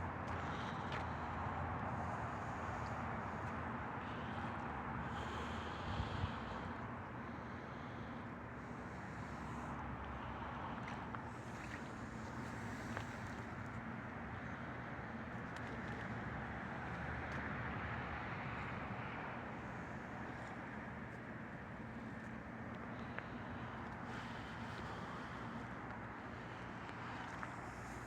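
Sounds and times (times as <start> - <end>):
distant engines and machinery rumble: 0.0 - 28.0.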